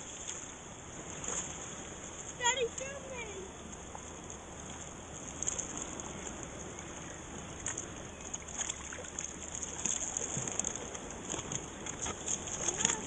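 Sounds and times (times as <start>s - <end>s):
light water splashes: 0.0s - 13.0s
seawater sloshing and lapping: 0.0s - 13.0s.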